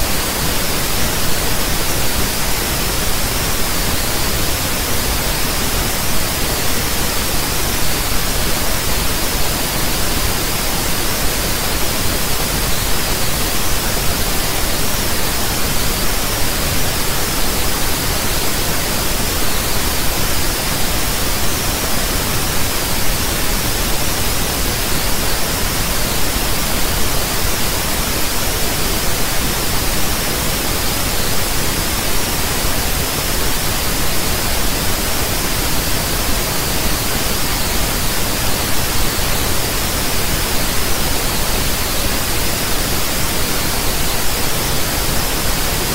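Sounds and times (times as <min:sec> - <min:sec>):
steady static hiss: 0:00.0 - 0:45.9.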